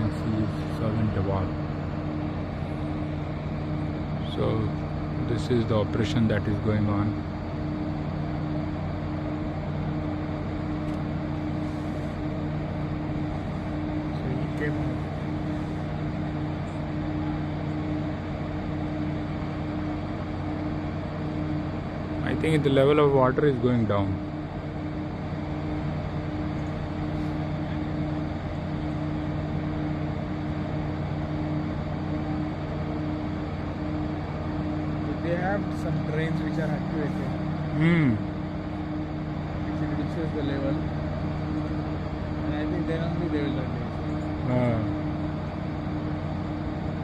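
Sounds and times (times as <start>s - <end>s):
diesel engines humming: 0.0s - 47.0s.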